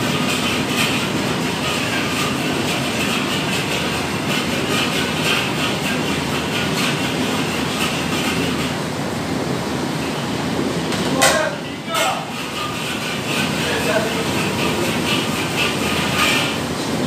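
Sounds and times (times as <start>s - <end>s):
gas burner roaring: 0.0s - 17.0s.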